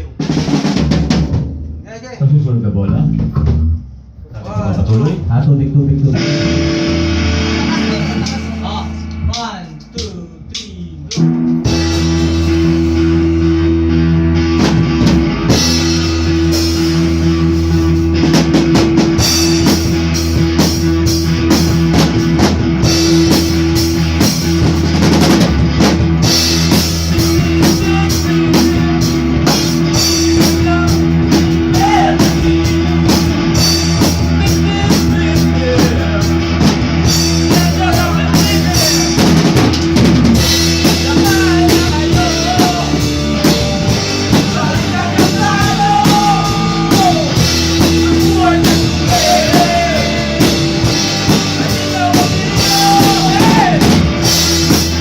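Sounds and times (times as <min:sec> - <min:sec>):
rock band playing: 0:00.0 - 0:01.8, 0:04.6 - 0:55.0.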